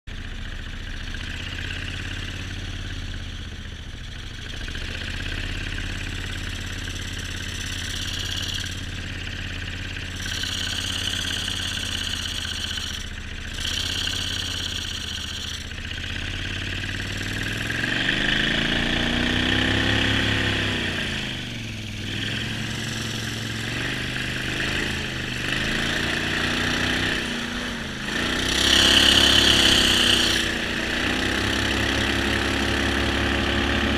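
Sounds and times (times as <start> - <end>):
wind: 0.1 - 33.9
boat motor revving: 4.5 - 33.9.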